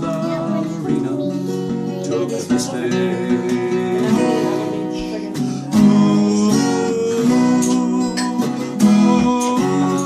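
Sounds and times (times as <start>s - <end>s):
strummed acoustic guitar chords: 0.0s - 10.0s.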